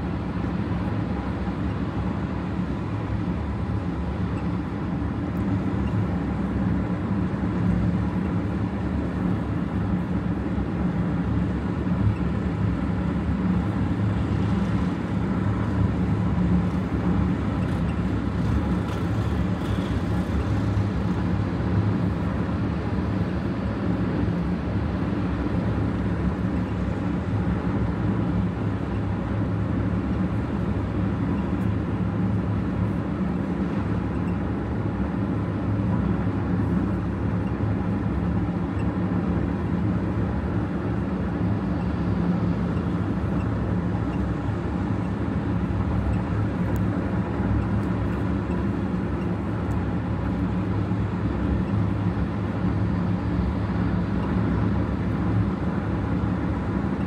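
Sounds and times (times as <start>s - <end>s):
car cabin road and engine noise: 0.0s - 57.0s.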